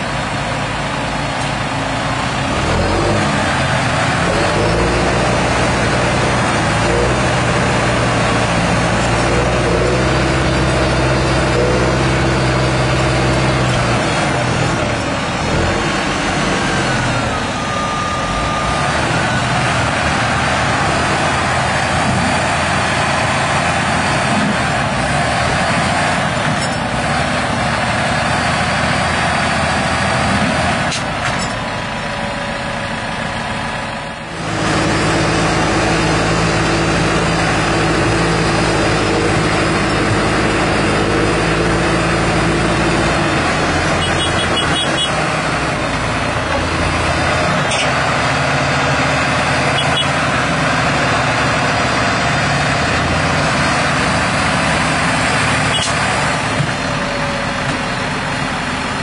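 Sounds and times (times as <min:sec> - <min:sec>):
tractor diesel engines under load: 0:00.0 - 0:59.0.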